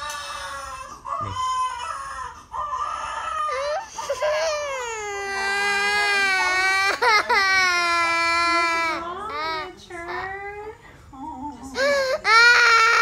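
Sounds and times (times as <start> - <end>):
toddler crying and wailing: 0.0 - 10.3, 11.8 - 13.0.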